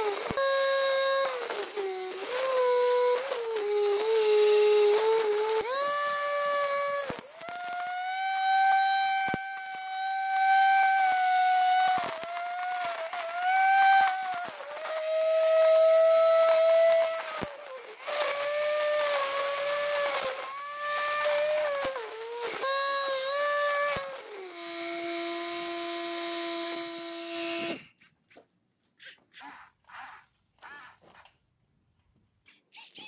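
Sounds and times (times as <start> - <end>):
electric grass trimmer whining: 0.0 - 27.9.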